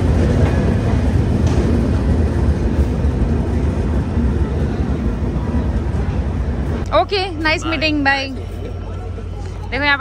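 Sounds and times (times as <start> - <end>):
train rumbling inside coach: 0.0 - 10.0.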